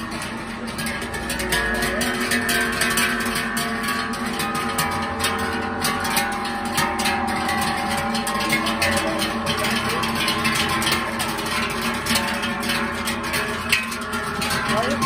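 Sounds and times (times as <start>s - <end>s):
cowbells clanging: 0.0s - 15.0s.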